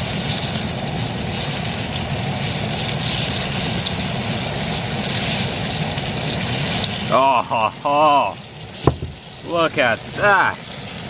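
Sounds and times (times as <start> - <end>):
oil sizzling and bubbling: 0.0 - 11.0.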